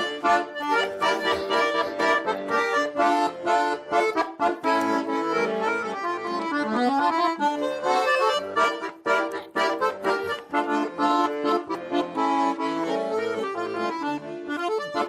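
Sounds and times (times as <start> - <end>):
accordion folk melody over beat: 0.0 - 15.0.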